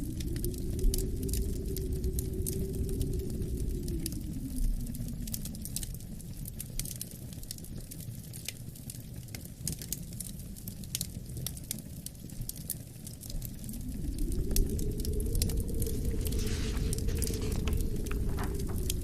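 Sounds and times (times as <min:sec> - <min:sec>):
low wind rumble: 0:00.0 - 0:08.0, 0:10.0 - 0:19.0
wind howl: 0:00.0 - 0:08.1, 0:09.6 - 0:19.0
wood fire crackling and popping: 0:00.0 - 0:19.0.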